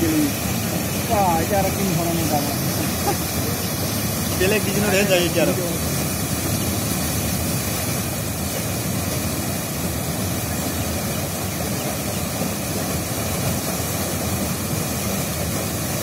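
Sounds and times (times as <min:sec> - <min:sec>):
floodwater rushing and crashing: 0:00.0 - 0:16.0.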